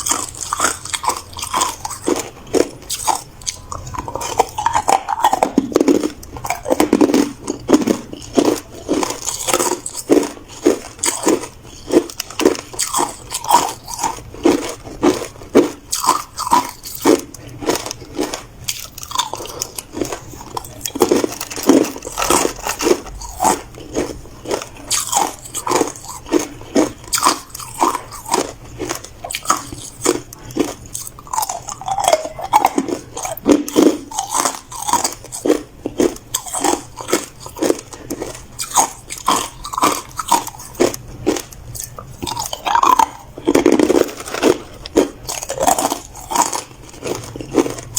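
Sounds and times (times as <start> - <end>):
ice being chewed: 0.0 - 47.9.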